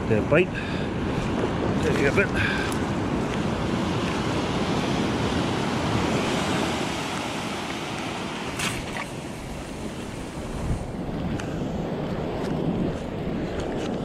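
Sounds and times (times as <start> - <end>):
surf breaking on sand beach: 0.3 - 14.0.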